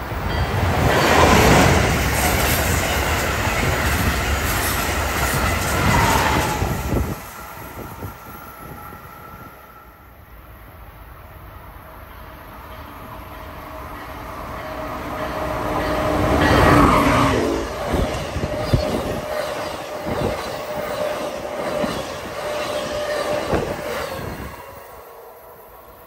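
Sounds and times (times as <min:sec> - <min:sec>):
passenger train passing: 0:00.0 - 0:26.0.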